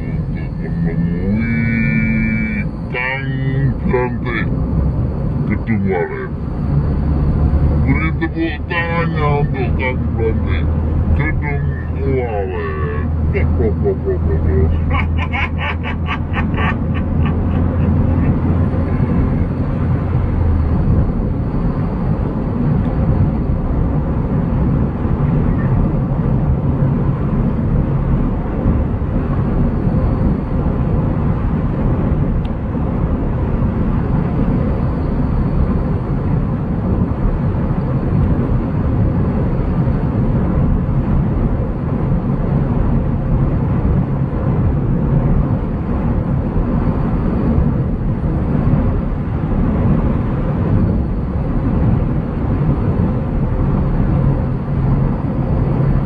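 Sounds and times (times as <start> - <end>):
car road and engine noise: 0.0 - 56.0
low hum: 0.0 - 56.0.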